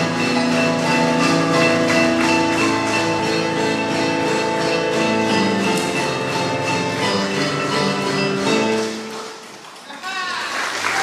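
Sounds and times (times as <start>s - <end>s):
live band playing: 0.0s - 9.6s.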